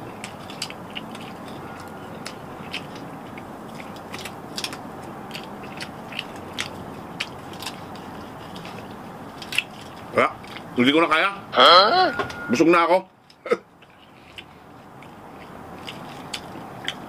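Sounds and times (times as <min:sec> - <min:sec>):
man chewing food: 0:00.0 - 0:11.2, 0:13.1 - 0:17.0.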